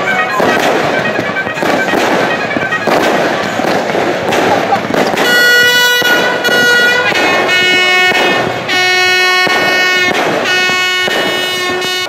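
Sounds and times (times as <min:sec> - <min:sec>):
handheld horn blasts: 0:00.0 - 0:03.8, 0:05.1 - 0:12.0.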